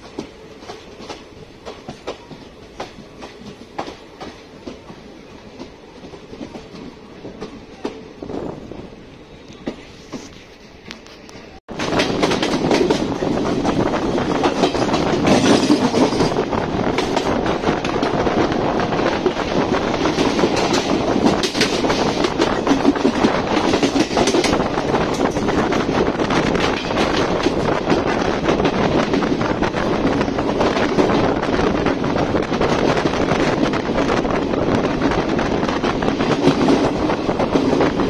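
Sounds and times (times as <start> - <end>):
train wheels clattering: 0.0 - 8.0, 11.0 - 38.0
train running rush: 0.0 - 38.0.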